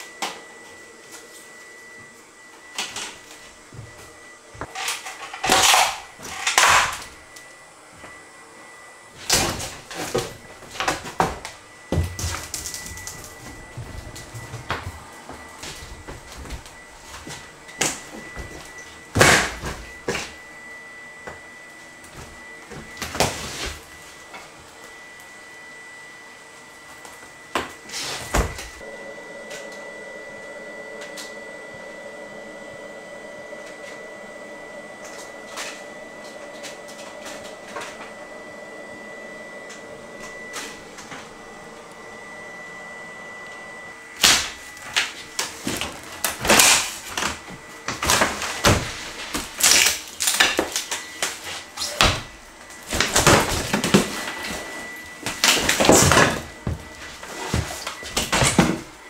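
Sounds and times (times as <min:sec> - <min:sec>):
faint steady high tone: 0:00.0 - 0:49.5.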